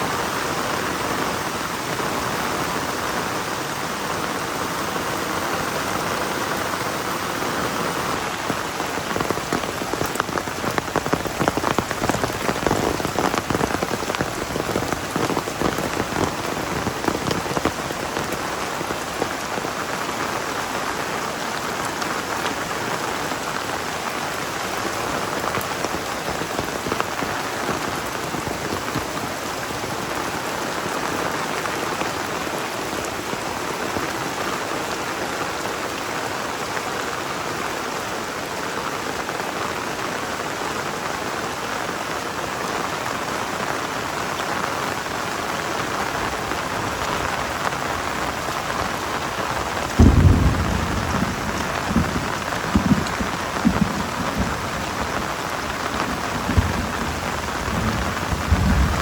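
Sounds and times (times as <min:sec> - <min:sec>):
close raindrops pattering: 0:00.0 - 0:59.0
heavy rain falling: 0:00.0 - 0:59.0.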